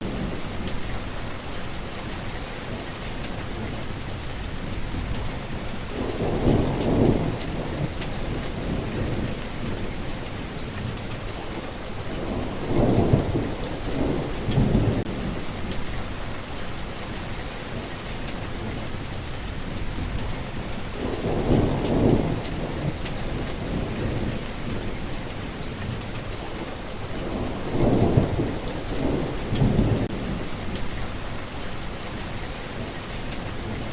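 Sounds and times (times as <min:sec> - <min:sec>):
heavy rain falling: 0:00.0 - 0:33.9
thunder rumbling: 0:00.0 - 0:33.9.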